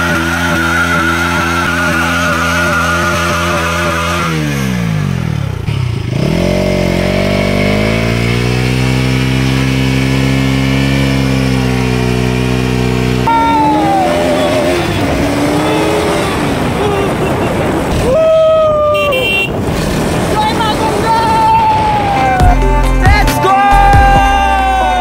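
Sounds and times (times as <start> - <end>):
motorcycle passing by: 0.0 - 18.1, 19.5 - 22.3
motorcycle engine revving: 0.0 - 18.2, 19.0 - 22.3.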